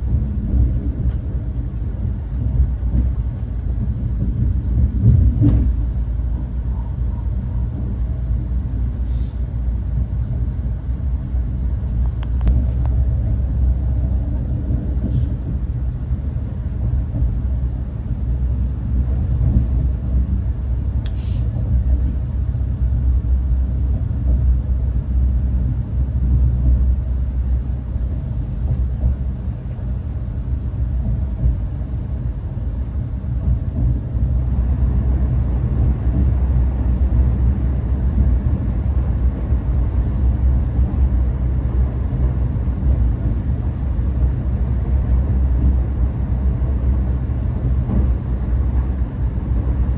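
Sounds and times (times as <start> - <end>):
high-speed train rumbling: 0.0 - 49.9.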